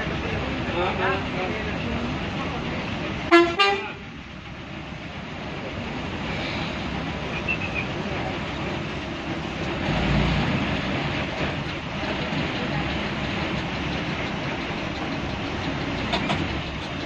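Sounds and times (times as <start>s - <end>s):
bus road and engine noise: 0.0s - 17.0s.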